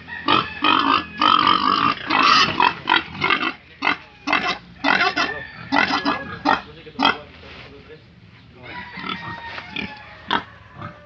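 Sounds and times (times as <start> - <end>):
pigs crying: 0.0 - 7.3, 8.8 - 11.0.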